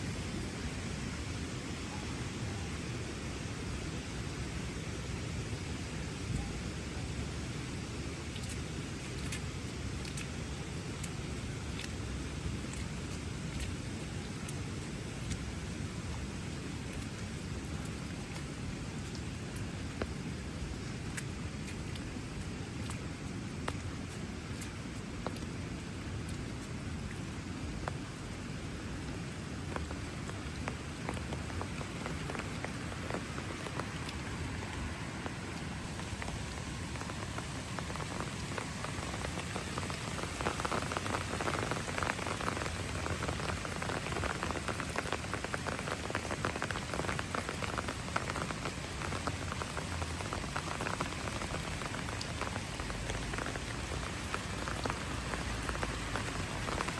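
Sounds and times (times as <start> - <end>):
rain on hard surfaces: 0.0 - 56.9.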